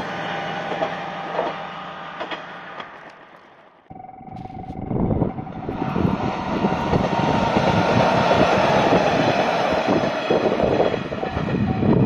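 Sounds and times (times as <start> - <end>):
train wheels rumbling on rails: 0.0 - 3.7, 4.7 - 12.0
diesel railcar engine running: 0.0 - 12.0.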